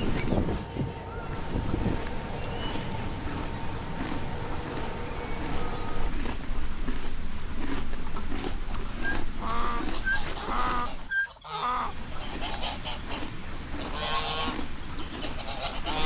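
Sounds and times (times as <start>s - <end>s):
farm animals calling: 0.0s - 6.3s, 9.4s - 16.0s
busy barnyard background: 0.0s - 16.0s.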